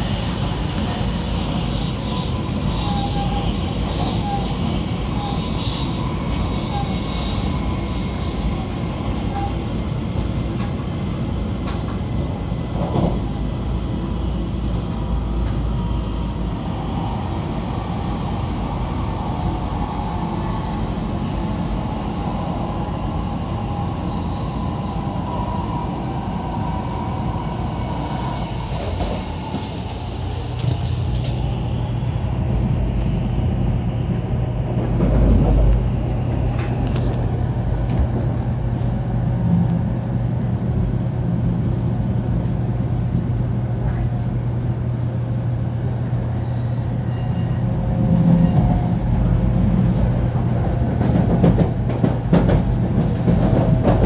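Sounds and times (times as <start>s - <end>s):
train cabin rumble: 0.0s - 7.4s, 9.1s - 54.0s.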